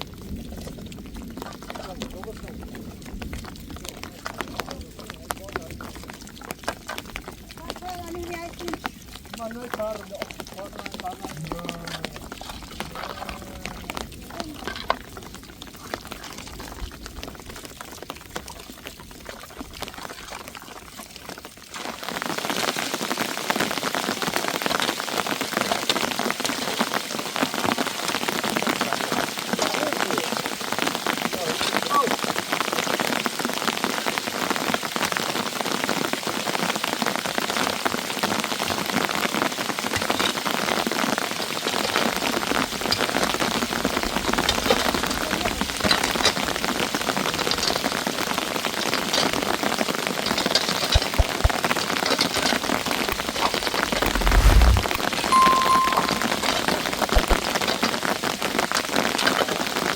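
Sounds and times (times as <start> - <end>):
rain downpour: 0.0 - 59.9.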